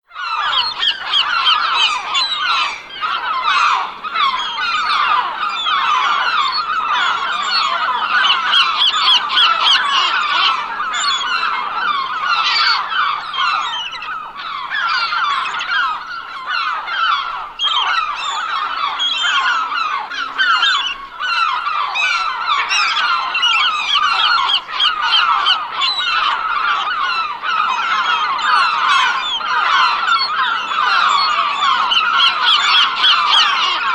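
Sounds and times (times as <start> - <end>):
seagulls calling: 0.1 - 33.9.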